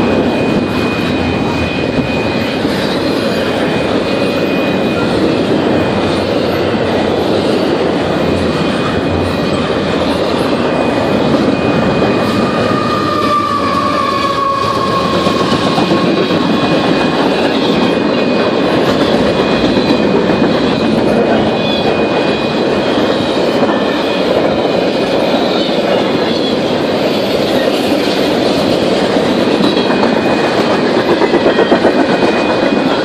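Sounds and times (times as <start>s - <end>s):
train wheels clattering on rails: 0.0s - 33.0s
faint squeal: 0.3s - 33.0s.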